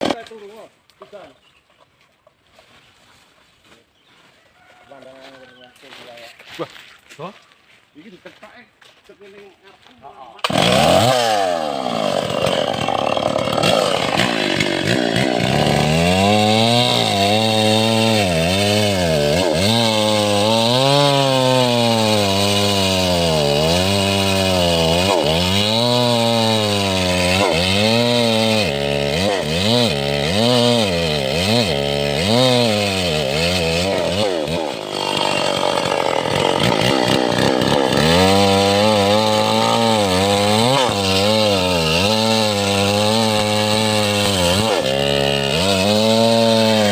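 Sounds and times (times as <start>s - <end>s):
chainsaw cutting wood: 0.0s - 1.2s, 10.4s - 46.9s.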